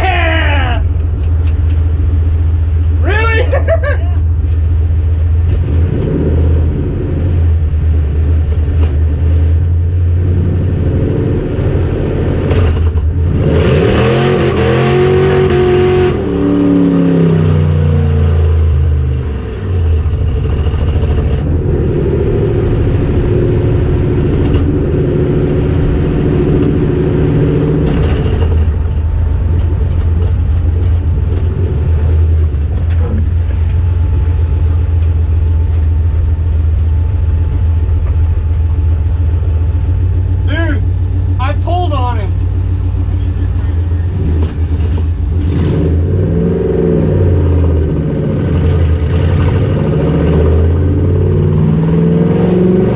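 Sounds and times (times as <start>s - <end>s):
car engine droning: 0.0s - 52.9s
car engine accelerating: 3.7s - 52.9s.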